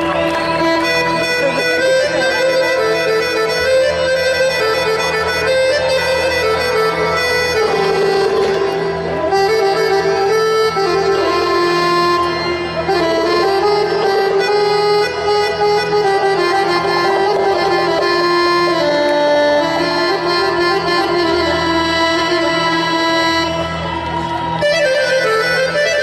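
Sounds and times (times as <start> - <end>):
reedy sustained melody: 0.0 - 26.0.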